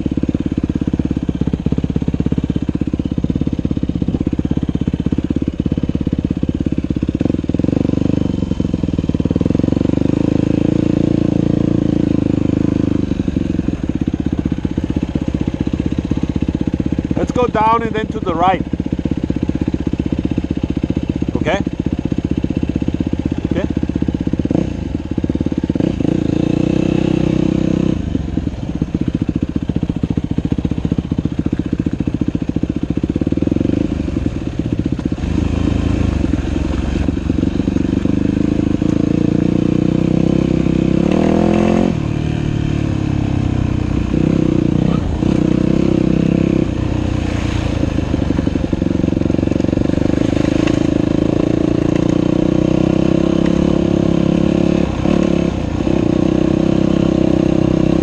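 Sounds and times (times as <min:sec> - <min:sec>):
dirt bike engine revving: 0:01.0 - 0:28.3, 0:31.4 - 0:58.0.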